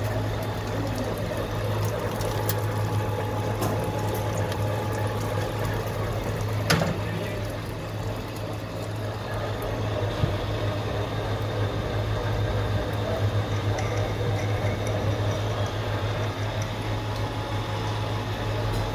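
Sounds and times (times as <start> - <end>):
coolant wash noise: 0.0 - 18.9.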